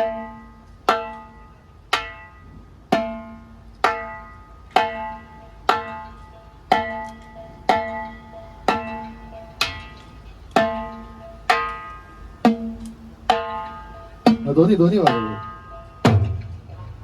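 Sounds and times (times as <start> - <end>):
tuned drum hits: 2.0 - 11.8, 12.4 - 17.0.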